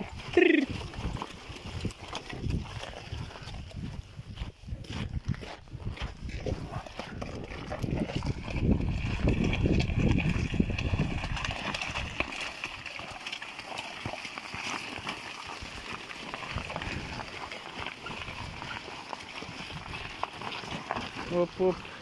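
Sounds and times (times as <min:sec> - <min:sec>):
hooves clip-clopping on gravel: 0:00.0 - 0:22.0.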